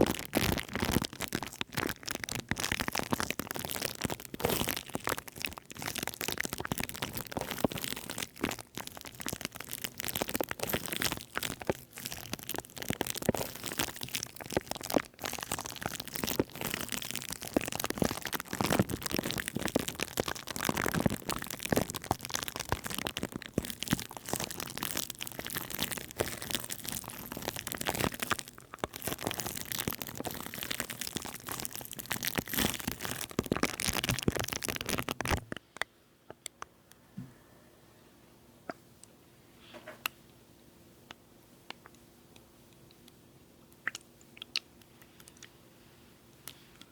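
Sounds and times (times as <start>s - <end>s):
crackling and crinkling close up: 0.0s - 37.0s, 41.1s - 46.9s.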